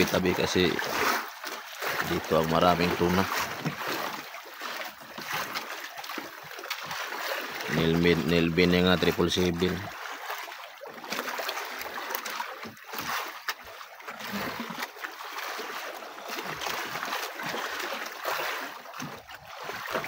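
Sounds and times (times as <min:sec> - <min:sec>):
water splashing against boat hull: 0:00.0 - 0:20.0.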